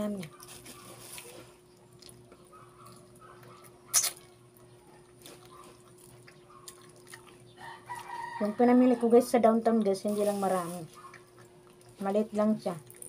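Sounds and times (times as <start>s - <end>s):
faint chewing sounds: 0.0s - 13.0s
faint steady hum: 0.0s - 13.0s.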